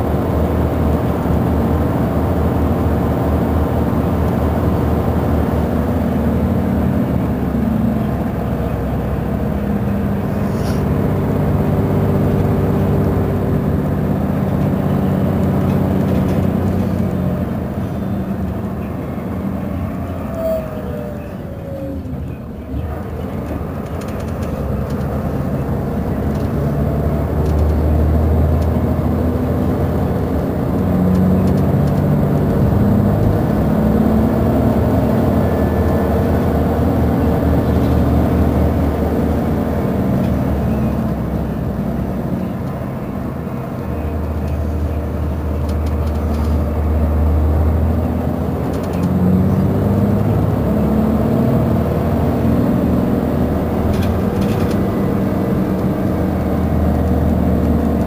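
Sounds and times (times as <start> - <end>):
bus diesel engine under load: 0.0 - 58.0.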